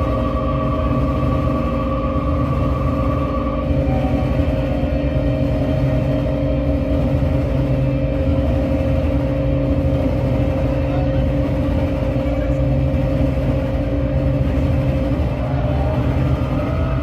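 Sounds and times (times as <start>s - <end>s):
drone of held tones: 0.0s - 10.5s, 13.6s - 17.0s.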